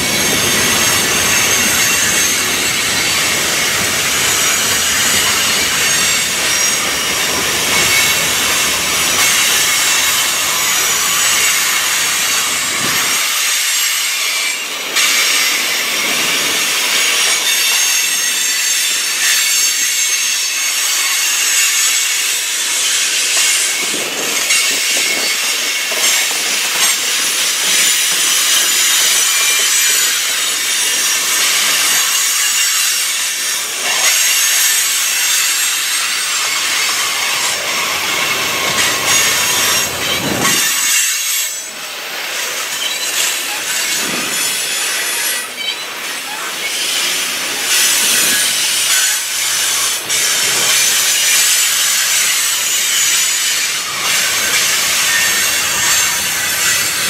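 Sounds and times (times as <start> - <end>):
train wheels squealing on rails: 0.0 - 57.0.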